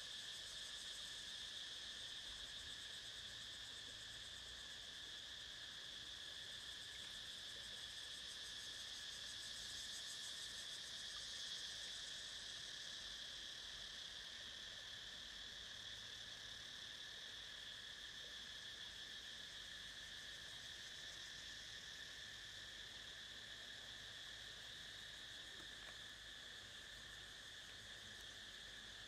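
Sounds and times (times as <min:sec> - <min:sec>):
insects chorus: 0:00.0 - 0:29.0.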